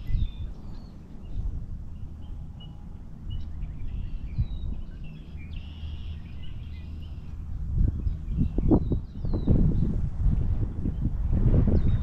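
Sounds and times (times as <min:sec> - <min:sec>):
birds chirping and whistling: 0:00.0 - 0:10.0.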